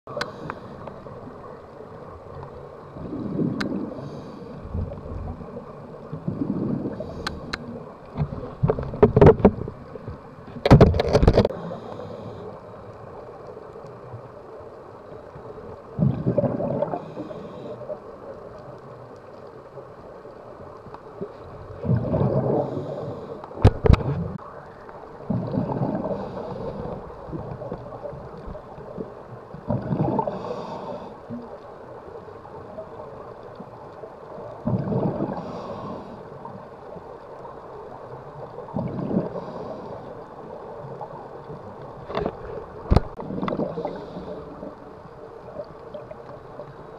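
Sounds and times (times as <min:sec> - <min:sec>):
exhaled bubbles gurgling underwater: 0:00.1 - 0:46.9.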